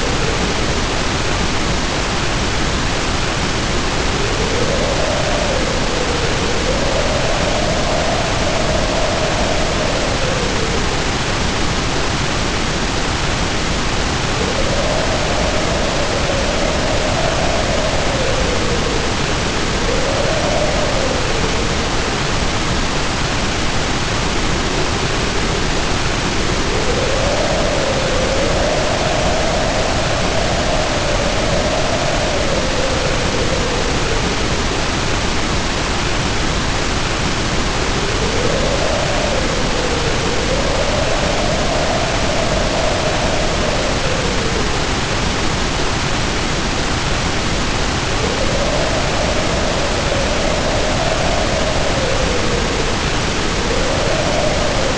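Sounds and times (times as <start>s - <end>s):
heavy rain pouring: 0.0s - 54.9s
wind howling: 0.0s - 54.9s.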